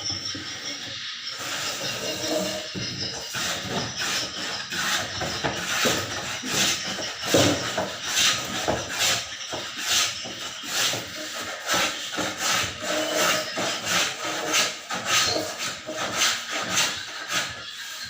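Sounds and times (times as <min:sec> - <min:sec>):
scraping strokes by hand: 0:00.0 - 0:18.0.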